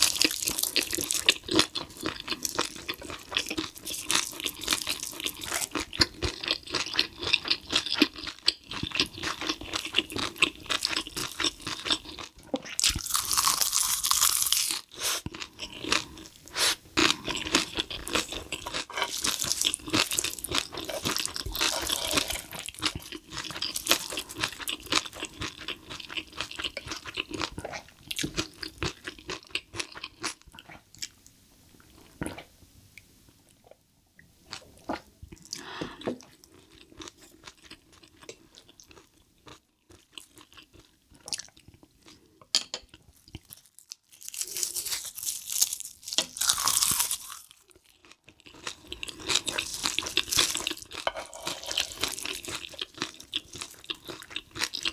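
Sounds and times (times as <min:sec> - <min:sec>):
crunching and chewing: 0:00.0 - 0:31.2, 0:35.4 - 0:54.9.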